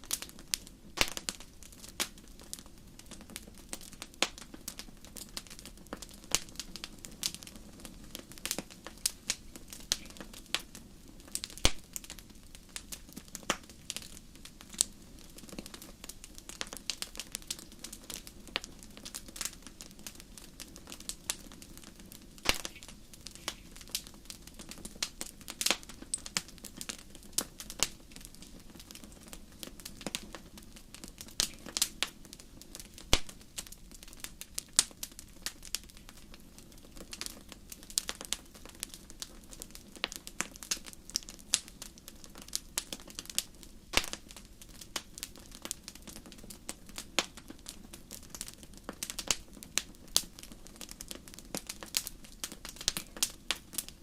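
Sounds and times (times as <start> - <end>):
low steady background noise: 0.0 - 54.0
wood fire crackling: 0.0 - 54.0.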